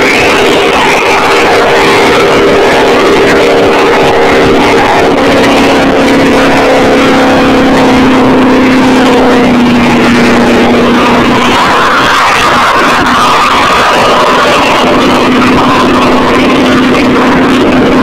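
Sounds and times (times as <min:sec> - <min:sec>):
jet boat engine droning: 0:00.0 - 0:18.0.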